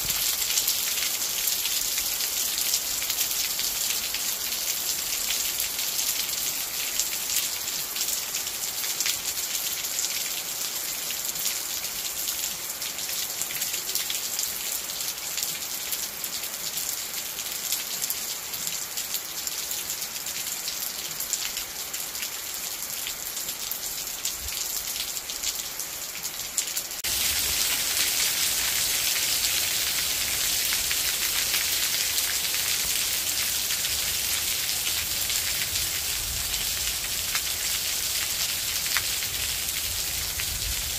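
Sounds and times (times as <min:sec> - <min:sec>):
rain on trees and gravel: 0:00.0 - 0:40.9.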